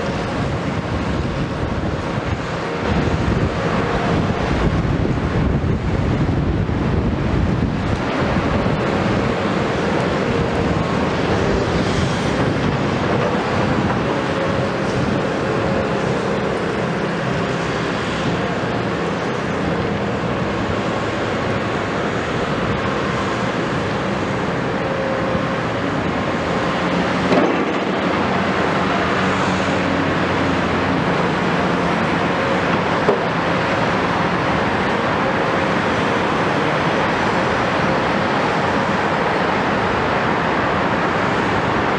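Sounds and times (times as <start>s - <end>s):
excavator diesel engines running: 0.0s - 41.9s.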